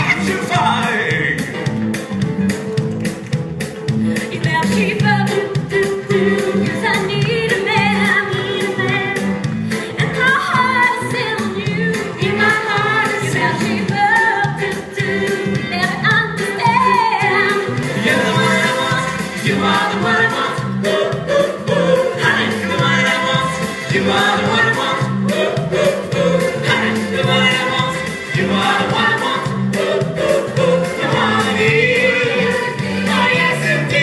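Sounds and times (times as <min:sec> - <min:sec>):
voices singing together: 0:00.0 - 0:01.6, 0:04.6 - 0:09.2, 0:10.0 - 0:34.0
backing track with steady beat: 0:00.0 - 0:34.0.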